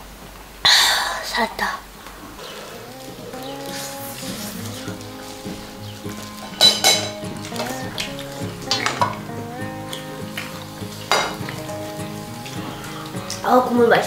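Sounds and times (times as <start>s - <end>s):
wet smacking and chewing: 2.0s - 13.5s
soft background music: 2.4s - 14.0s.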